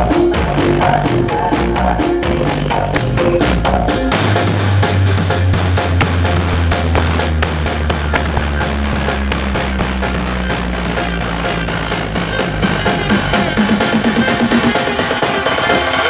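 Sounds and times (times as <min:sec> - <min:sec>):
drum beat: 0:00.0 - 0:16.0
heavy bass line: 0:00.0 - 0:16.0
loud music over sound system: 0:00.0 - 0:16.0.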